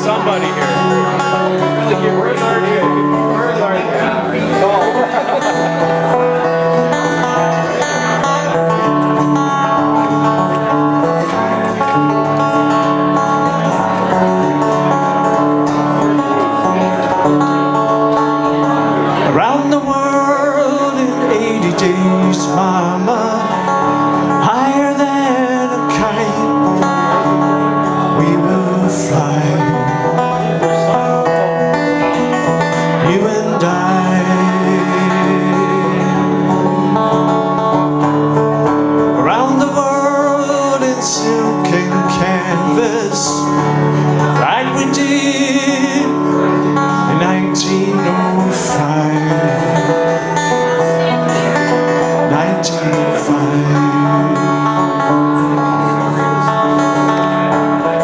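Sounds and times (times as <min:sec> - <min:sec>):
acoustic guitar strumming: 0:00.0 - 0:58.0
man singing: 0:00.0 - 0:58.0.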